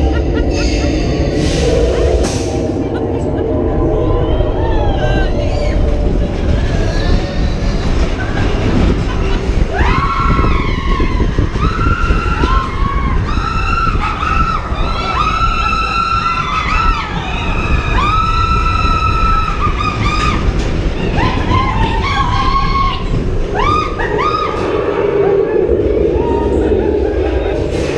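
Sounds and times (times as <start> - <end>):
roller coaster rumbling on track: 0.0 - 27.9.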